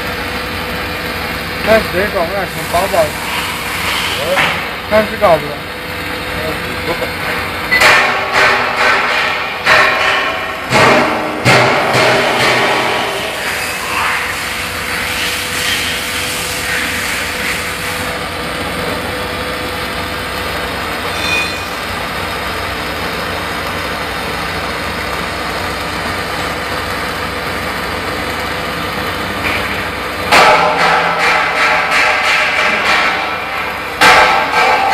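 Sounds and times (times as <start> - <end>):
welding machine hum and hiss: 0.0 - 34.9.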